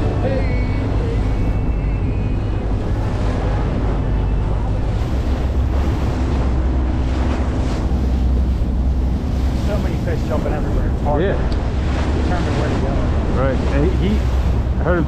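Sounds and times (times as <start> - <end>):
boat engine drone: 0.0 - 15.0
sea: 0.0 - 15.0
wind buffeting microphone: 0.0 - 15.0.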